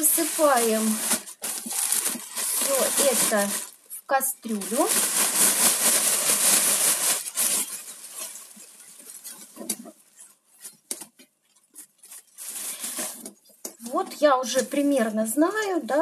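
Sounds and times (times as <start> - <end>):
pine shoots rustling into pot: 0.0 - 3.8, 4.4 - 15.8
plastic bag crinkling: 0.0 - 16.0.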